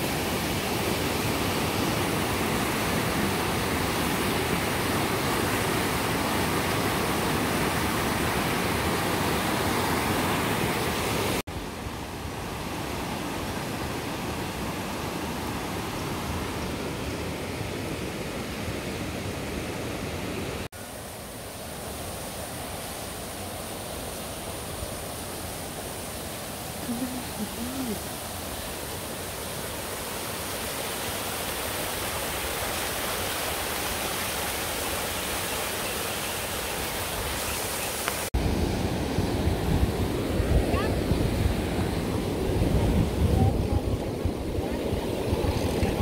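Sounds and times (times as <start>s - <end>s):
water flowing: 0.0s - 18.7s, 19.4s - 46.0s.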